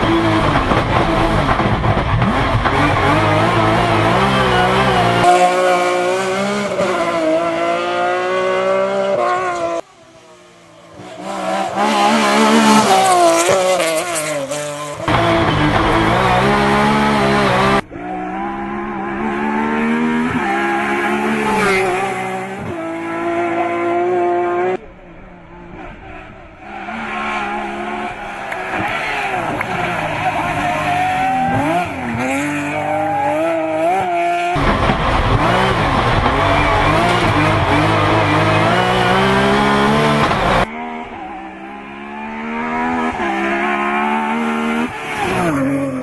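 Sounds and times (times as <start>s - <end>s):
race car engine revving: 0.0s - 9.9s, 10.9s - 46.0s.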